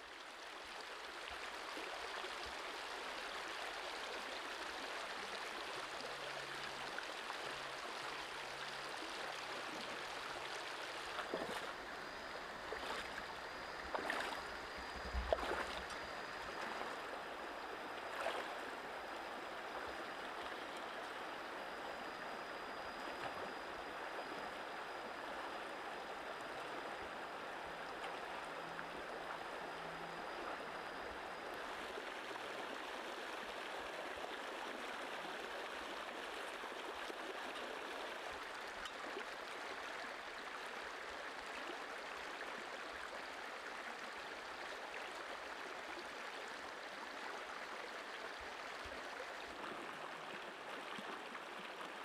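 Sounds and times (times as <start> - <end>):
thin high whine: 0.1 - 52.0
flowing water rushing: 0.2 - 52.0.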